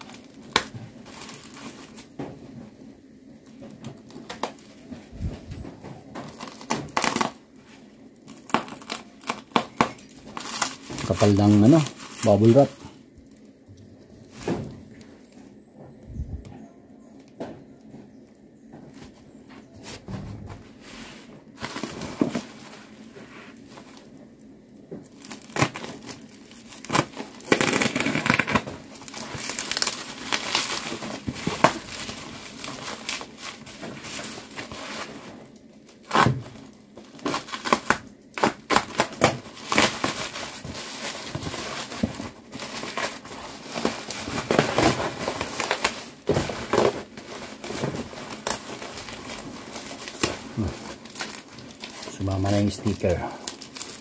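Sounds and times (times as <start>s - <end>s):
bubble wrap crinkling and tearing: 0.0s - 15.6s, 19.0s - 54.0s.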